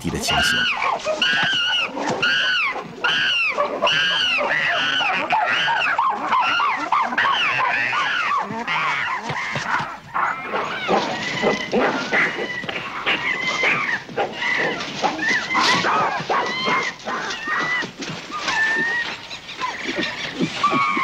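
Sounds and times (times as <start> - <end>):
chimpanzees screaming and calling: 0.2 - 21.0.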